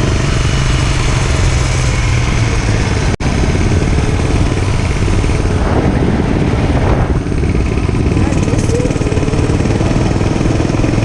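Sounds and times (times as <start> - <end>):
dirt bike engine running hard: 0.0 - 11.0.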